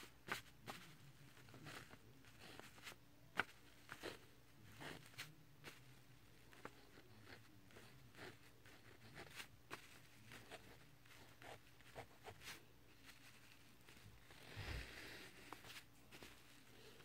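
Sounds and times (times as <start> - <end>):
pen scratching on paper: 0.0 - 17.0.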